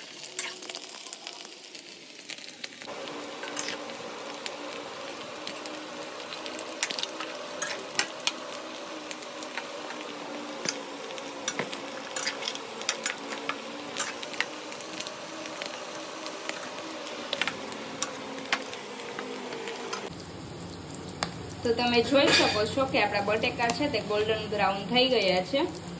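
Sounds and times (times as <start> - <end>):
potatoes sizzling in oil: 0.0 - 25.9.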